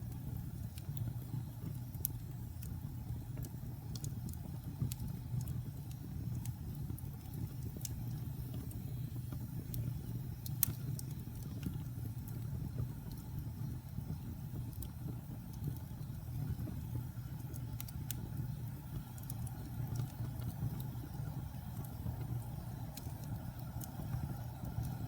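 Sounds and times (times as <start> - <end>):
sharp crackles and pops: 0.0 - 25.0
wood fire burning: 0.0 - 25.0.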